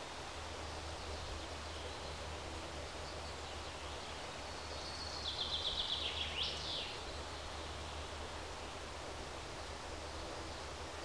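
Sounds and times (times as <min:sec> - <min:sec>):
background hiss and hum: 0:00.0 - 0:11.0.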